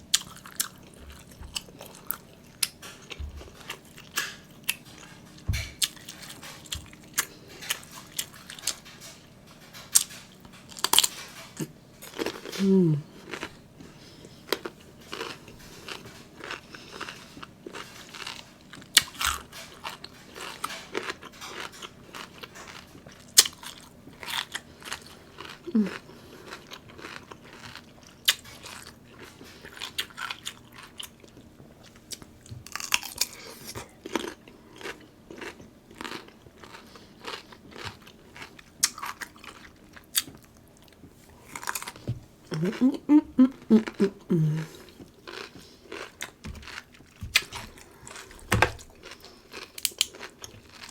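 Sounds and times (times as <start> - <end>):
crunching and chewing food: 0.0 - 50.9.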